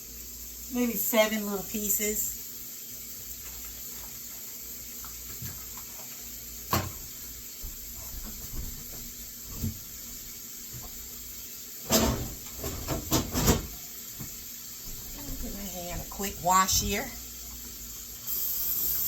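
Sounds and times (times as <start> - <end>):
bacon sizzling in a frying pan: 0.0 - 19.0.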